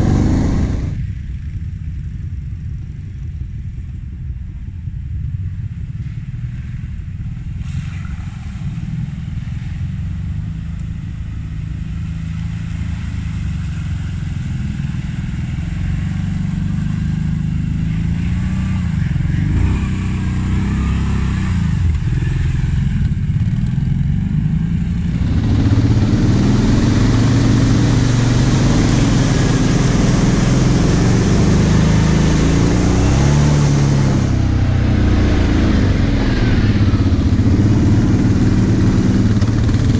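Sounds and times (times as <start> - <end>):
quad bike engines revving: 0.0 - 1.1, 7.5 - 39.9.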